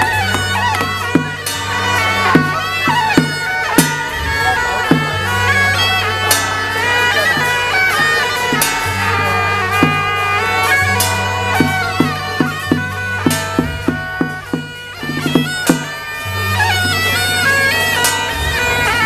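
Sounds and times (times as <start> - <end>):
sharp percussion strikes: 0.0 - 19.0
shawm playing sliding melody: 0.0 - 19.0.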